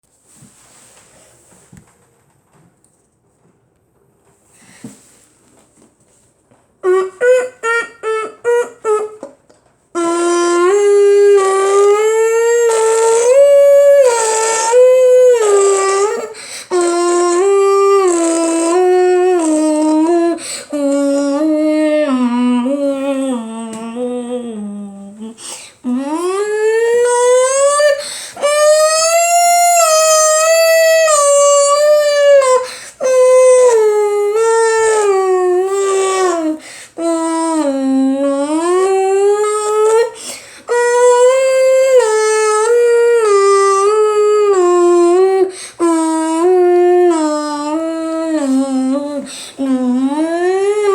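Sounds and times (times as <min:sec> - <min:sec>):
person imitating a siren: 0:06.8 - 0:09.4, 0:10.0 - 0:50.9.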